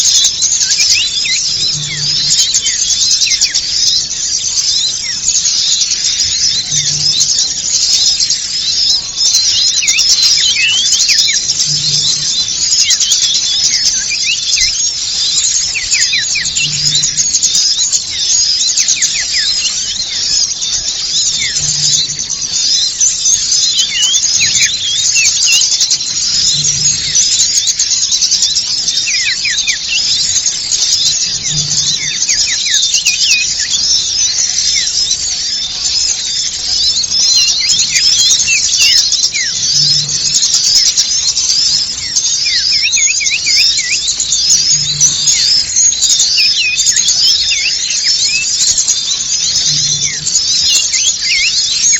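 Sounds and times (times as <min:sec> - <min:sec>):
small songbirds chattering: 0:00.0 - 0:51.9.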